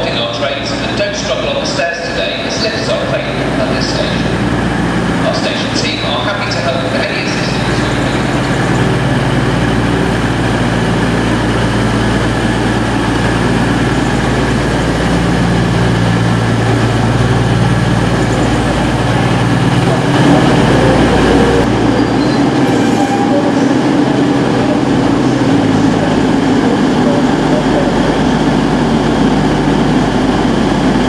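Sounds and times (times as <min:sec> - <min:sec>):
train diesel engines humming: 0:00.0 - 0:31.0.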